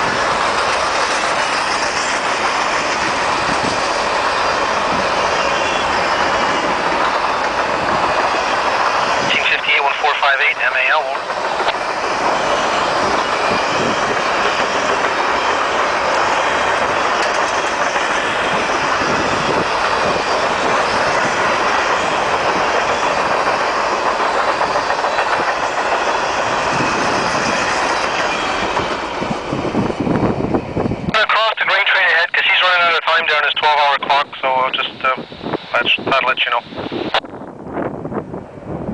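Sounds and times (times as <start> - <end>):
freight train passing: 0.0 - 38.9.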